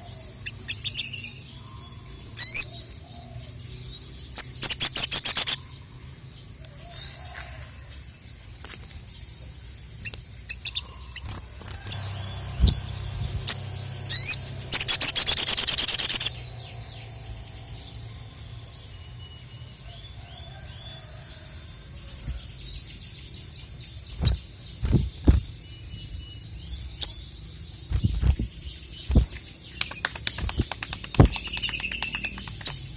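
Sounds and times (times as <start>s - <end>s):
bird chirping and trilling: 0.0s - 6.0s, 9.2s - 32.9s.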